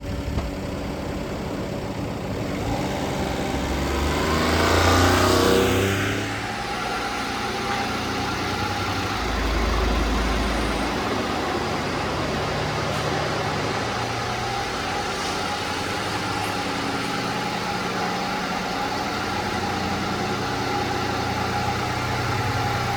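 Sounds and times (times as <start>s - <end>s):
small truck engine revving: 0.0s - 22.9s.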